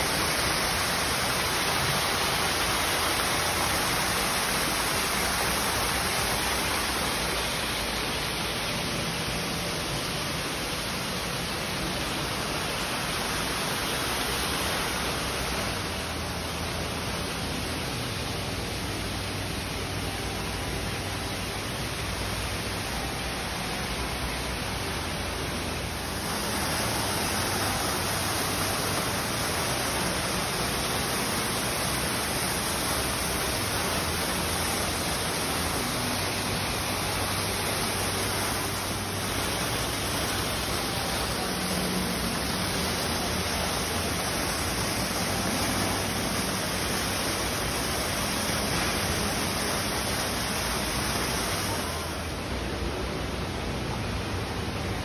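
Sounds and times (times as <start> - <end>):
fountain water splashing into pond: 0.0 - 55.0.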